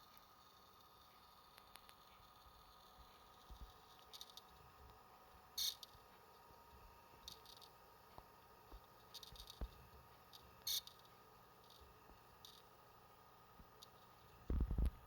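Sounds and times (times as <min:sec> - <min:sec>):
hard disk high-pitched clicks: 0:00.0 - 0:05.0, 0:05.6 - 0:06.4, 0:07.2 - 0:12.8, 0:13.6 - 0:15.0
faint steady hum: 0:00.0 - 0:15.0.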